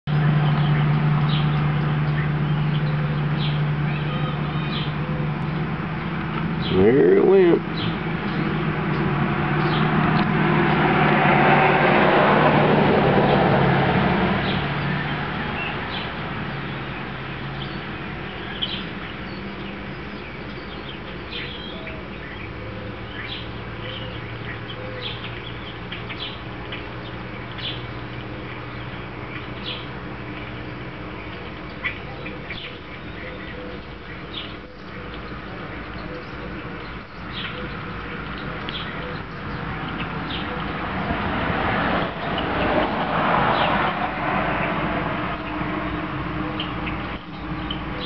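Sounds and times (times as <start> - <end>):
small birds chirping: 0.1 - 10.3, 14.4 - 48.0
passing engine: 0.1 - 48.0.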